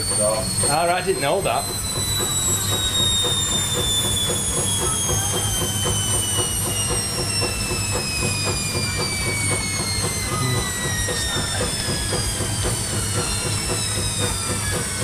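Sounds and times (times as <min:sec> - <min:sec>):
low hum: 0:00.0 - 0:15.0
washing machine motor whining: 0:00.0 - 0:15.0.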